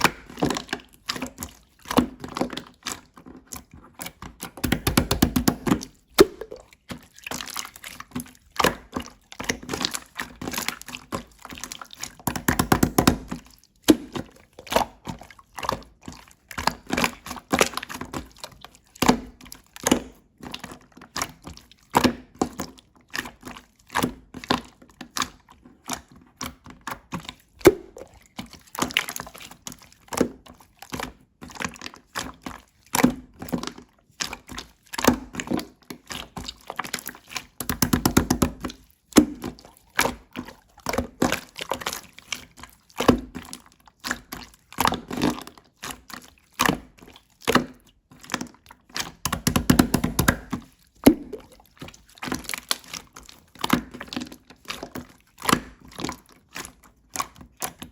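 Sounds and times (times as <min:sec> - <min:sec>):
hands squishing slime: 0:00.0 - 0:57.9.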